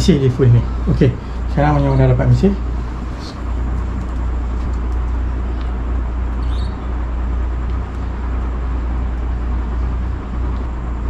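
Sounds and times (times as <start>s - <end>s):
low rumble and hum: 0.0s - 11.0s.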